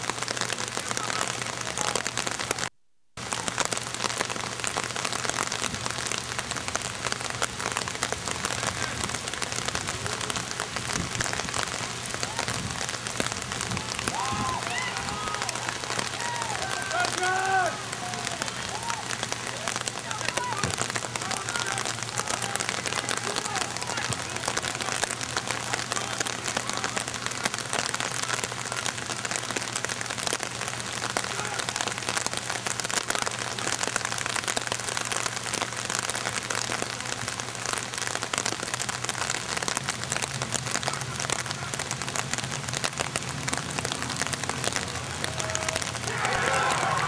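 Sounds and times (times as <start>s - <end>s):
steady rain pattering: 0.0s - 47.0s.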